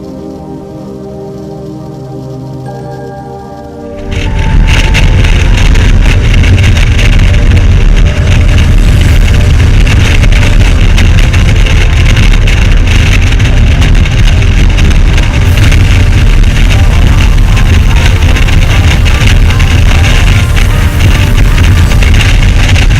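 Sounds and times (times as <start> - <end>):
motorcycle engine and road noise: 3.6 - 22.9
wind rumble on microphone: 3.6 - 22.9.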